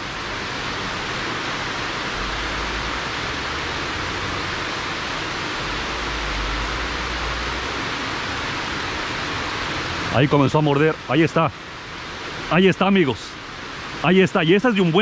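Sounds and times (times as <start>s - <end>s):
water rushing down a spillway: 0.0s - 15.0s.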